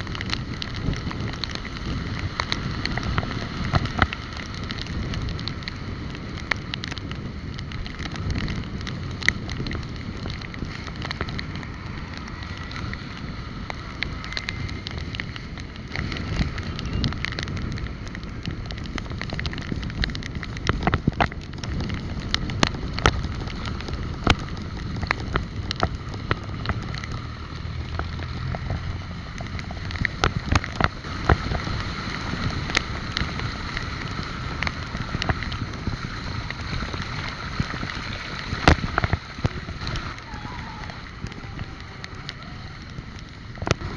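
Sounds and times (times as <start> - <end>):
bike rattling and knocking: 0.0 - 43.9
low road rumble: 0.0 - 43.9
wind on microphone: 0.0 - 43.9.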